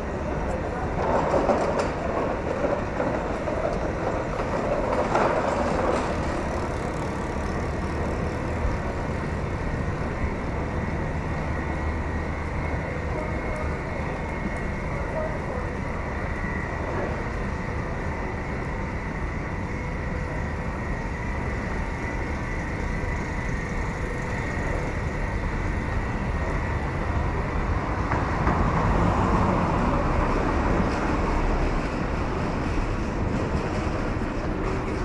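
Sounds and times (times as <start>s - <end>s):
urban traffic noise: 0.0s - 35.0s.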